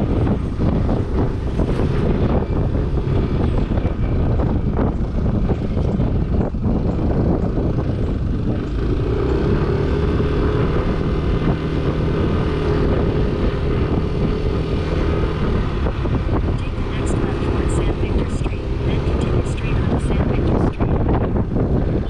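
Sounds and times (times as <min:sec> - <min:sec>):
scooter engine rumble: 0:00.0 - 0:22.0
steady hum: 0:00.0 - 0:22.0
wind noise: 0:00.0 - 0:22.0.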